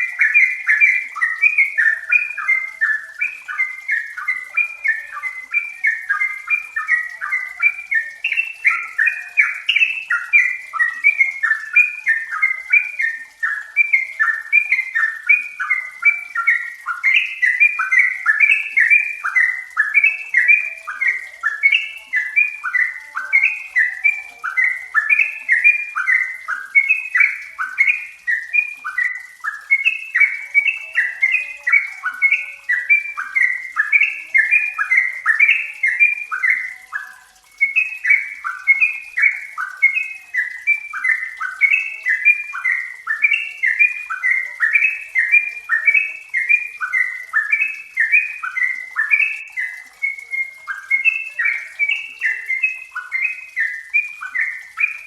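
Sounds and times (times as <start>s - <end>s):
bulbul chattering song: 0.0s - 55.0s.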